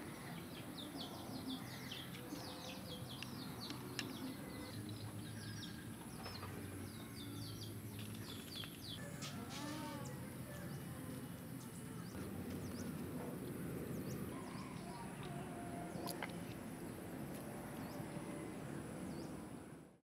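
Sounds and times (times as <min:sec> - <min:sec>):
small birds chirping: 0:00.0 - 0:19.5.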